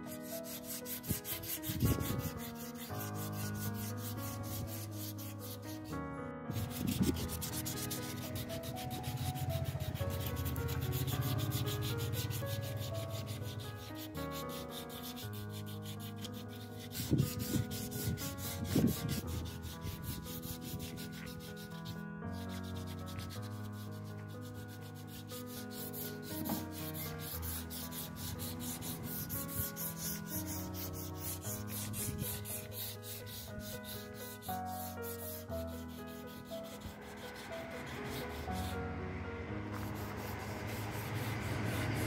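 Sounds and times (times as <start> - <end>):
sandpaper rubbing metal: 0.0 - 38.8, 39.7 - 42.0
background music: 0.0 - 42.0.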